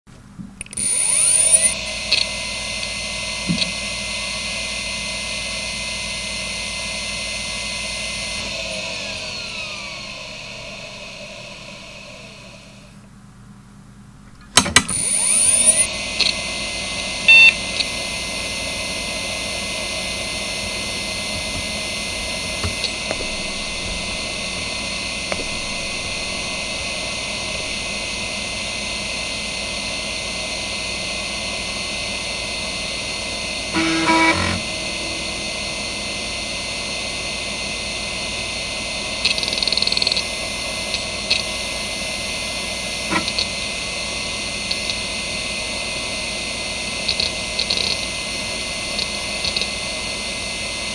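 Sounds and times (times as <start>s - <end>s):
hard drive spinning whine: 0.5s - 13.4s, 14.8s - 50.9s.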